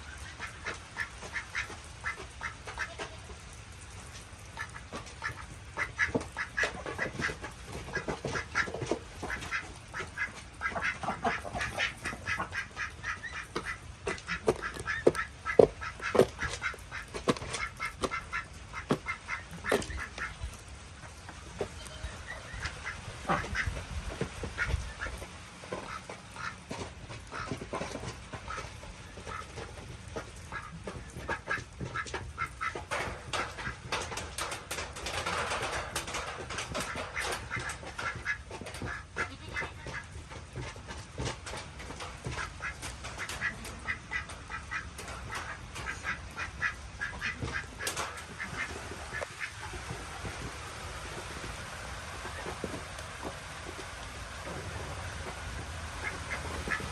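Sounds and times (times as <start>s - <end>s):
ducks quacking: 0.0s - 56.9s
steady rain hiss: 0.0s - 56.9s.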